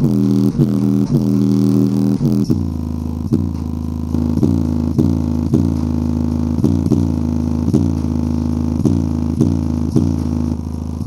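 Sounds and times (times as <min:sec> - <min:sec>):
deep bass notes from speaker: 0:00.0 - 0:11.0.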